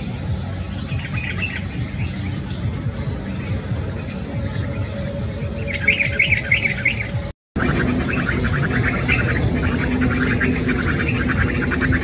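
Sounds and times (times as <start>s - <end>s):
other bird calls: 0.0s - 12.0s
small birds chirping: 0.0s - 12.0s.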